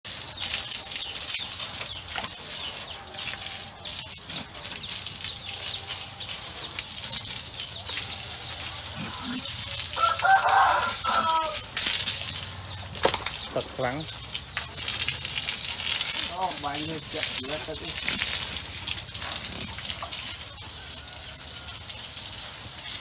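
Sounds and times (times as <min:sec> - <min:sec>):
hose water spraying: 0:00.1 - 0:23.0
small splashes: 0:00.3 - 0:20.6.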